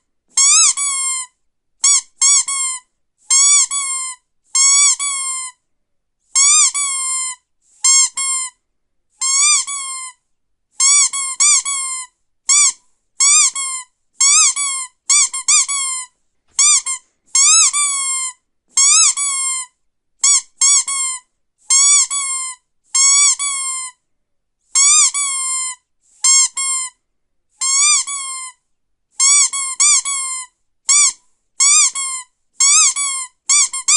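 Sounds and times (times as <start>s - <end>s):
squeaky dog toy squeaking: 0.3s - 5.6s, 6.3s - 8.6s, 9.2s - 10.2s, 10.8s - 24.0s, 24.7s - 27.0s, 27.6s - 33.9s.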